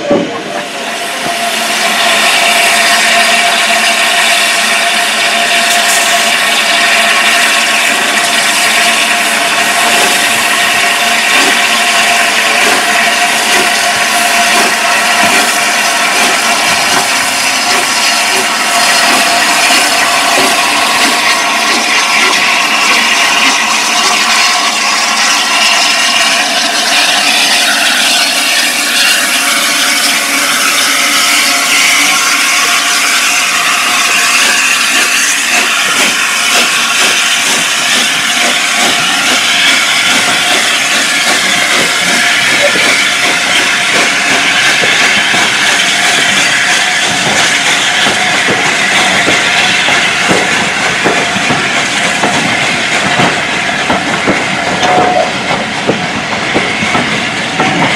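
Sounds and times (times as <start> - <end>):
steam locomotive hissing: 0.0 - 57.9.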